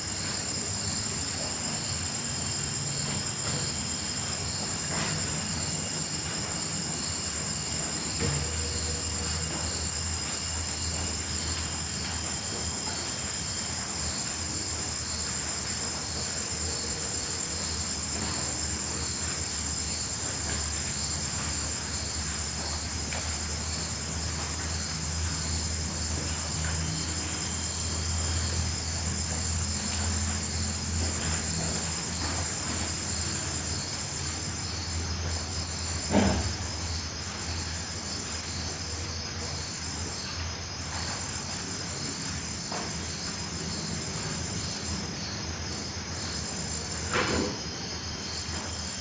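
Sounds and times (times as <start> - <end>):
insects trilling: 0.0 - 49.0
pulsing insect chirp: 0.0 - 49.0.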